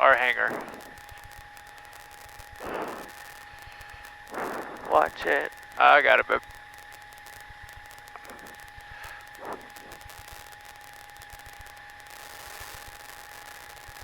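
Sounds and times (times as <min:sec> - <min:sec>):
faint electrical hiss: 0:00.0 - 0:14.0
high-pitched whine: 0:00.0 - 0:14.0.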